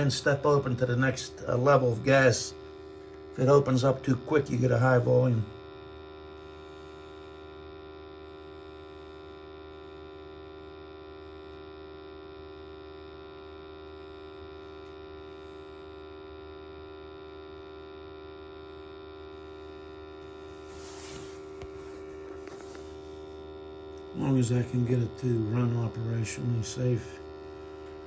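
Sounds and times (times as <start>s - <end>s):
buzzing electrical hum: 0.0s - 28.0s.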